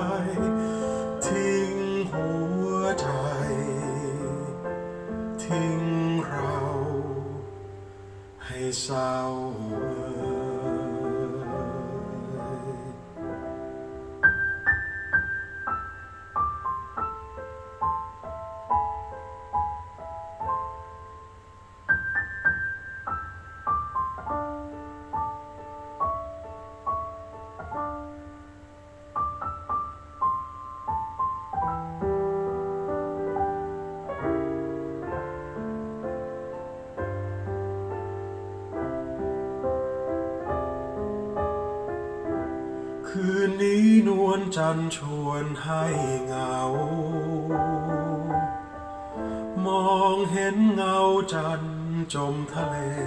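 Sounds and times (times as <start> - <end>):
piano ballad melody: 0.0 - 53.0.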